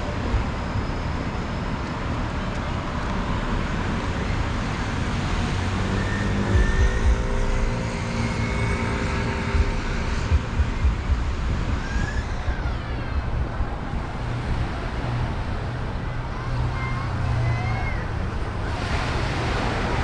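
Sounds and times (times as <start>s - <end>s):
passing cars: 0.0s - 20.0s
vehicle engine: 0.0s - 20.0s.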